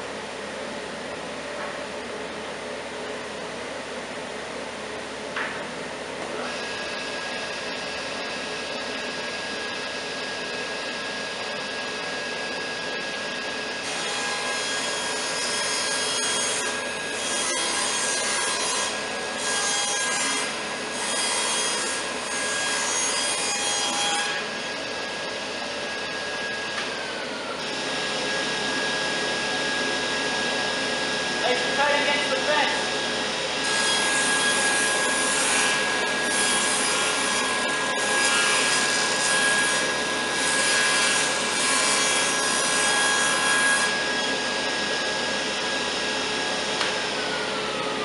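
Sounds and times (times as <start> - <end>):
dust collector running: 0.0 - 48.0
table saw running: 5.3 - 48.0.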